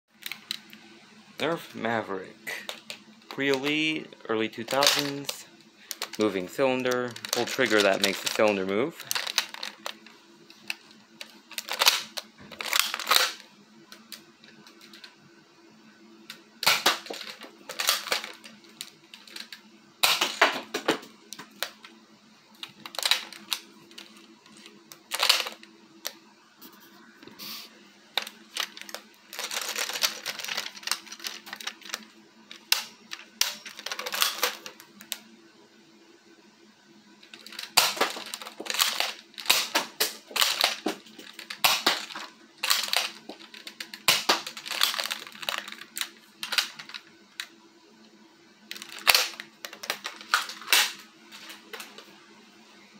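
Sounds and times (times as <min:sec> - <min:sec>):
faint steady hum: 0:00.1 - 0:52.9.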